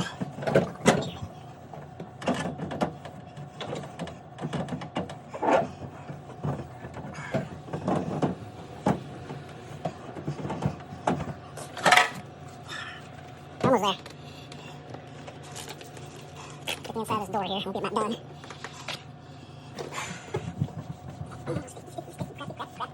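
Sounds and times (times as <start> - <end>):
faint steady hum: 0.0 - 22.9
rag scrubbing inside refrigerator: 0.0 - 22.9.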